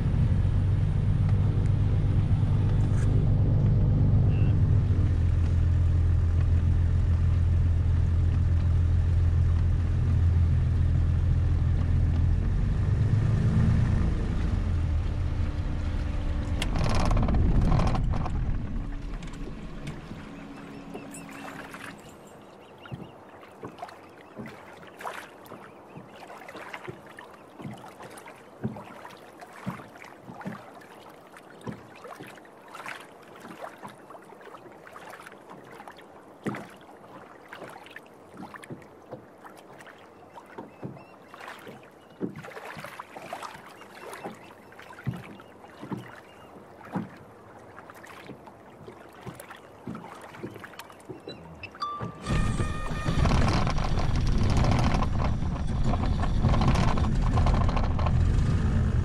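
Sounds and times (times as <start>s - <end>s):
water slapping on hull: 0.0s - 59.0s
waves lapping against hull: 0.0s - 59.0s.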